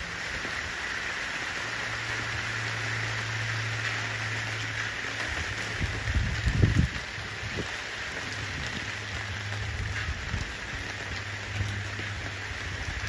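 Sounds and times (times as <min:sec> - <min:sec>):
rain on pavement: 0:00.0 - 0:13.0.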